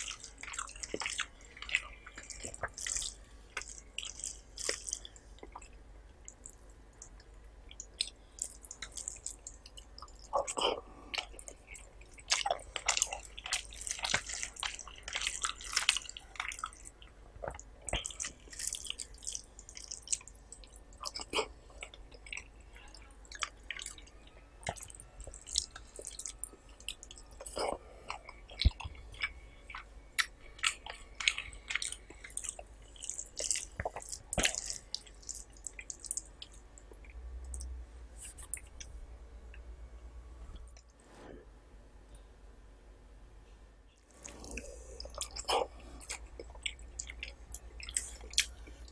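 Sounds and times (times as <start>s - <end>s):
person chewing food: 0.0s - 38.9s, 44.1s - 48.9s.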